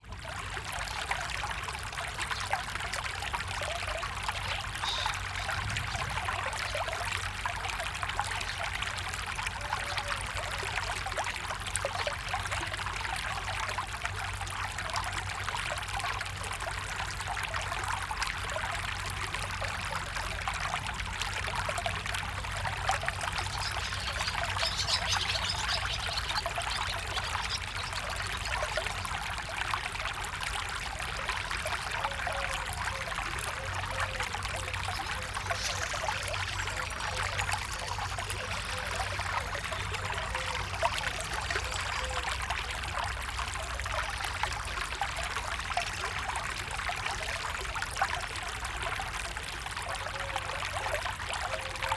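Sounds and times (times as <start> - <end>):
water trickling and babbling: 0.0 - 51.9.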